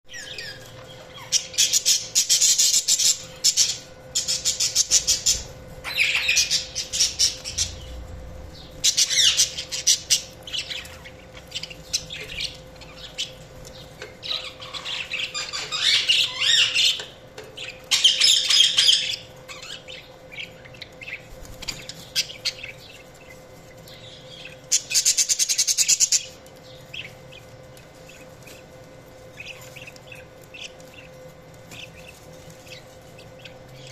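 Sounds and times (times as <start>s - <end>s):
budgerigars chirping and trilling: 0.1s - 33.9s.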